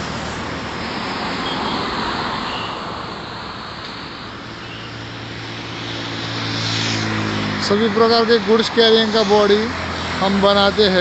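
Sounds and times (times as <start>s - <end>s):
road traffic hiss: 0.0s - 11.0s.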